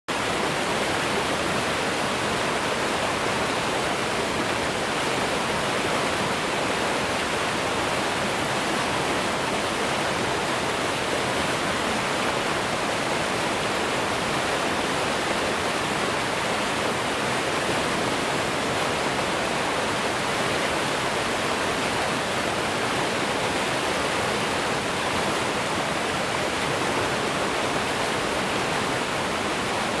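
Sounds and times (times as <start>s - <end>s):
stream rushing over rapids: 0.1s - 30.0s.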